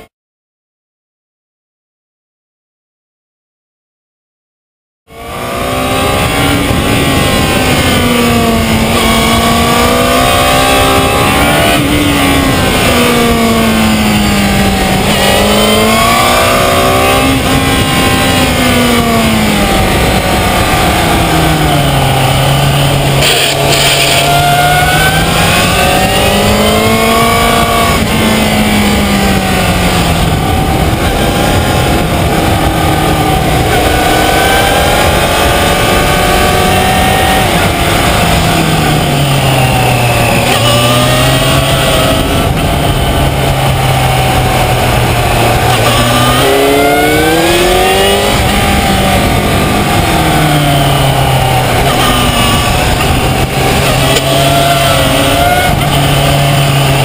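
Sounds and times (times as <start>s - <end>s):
motorcycle engine revving: 5.1s - 57.0s
wind noise: 5.1s - 57.0s.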